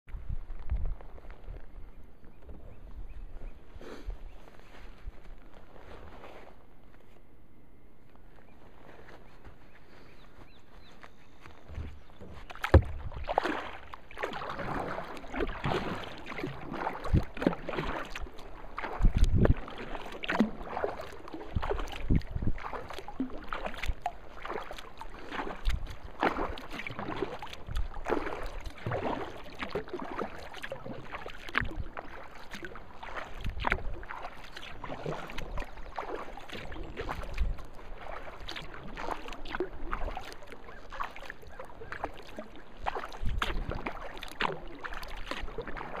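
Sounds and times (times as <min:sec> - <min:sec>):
paddle strokes splashing water: 0:00.2 - 0:07.2, 0:08.1 - 0:46.0.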